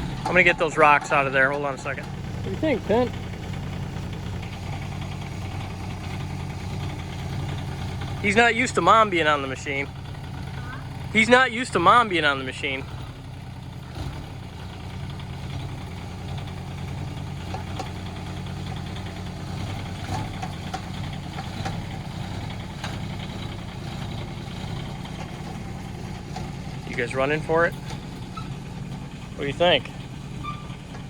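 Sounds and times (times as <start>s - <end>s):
excavator diesel engine idling: 0.0s - 31.0s.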